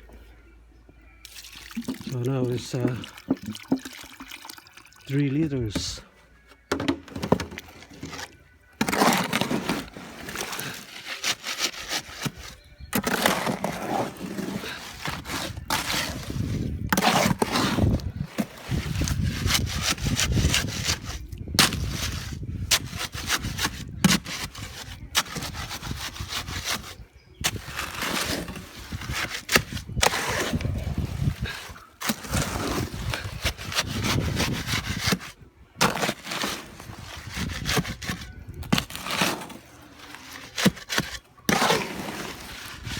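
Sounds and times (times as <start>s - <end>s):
tool scraping wet concrete: 1.2s - 3.9s, 6.7s - 42.9s.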